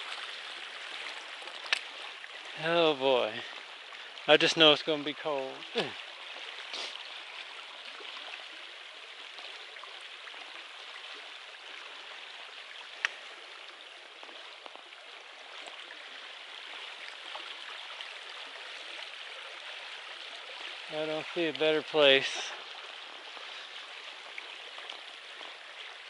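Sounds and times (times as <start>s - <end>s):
creek running over rocks: 0.0s - 26.0s.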